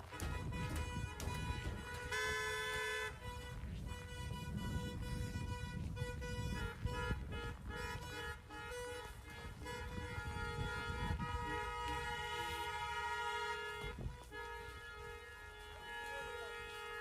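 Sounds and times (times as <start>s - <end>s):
car horns honking: 0.0s - 17.0s.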